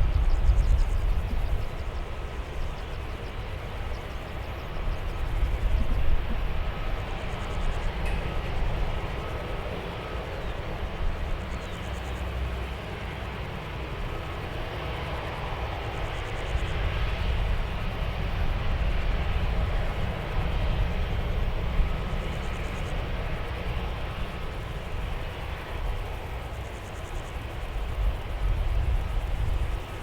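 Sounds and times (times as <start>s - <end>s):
distant jet engines: 0.0s - 30.0s
wind rumble on microphone: 0.0s - 30.0s.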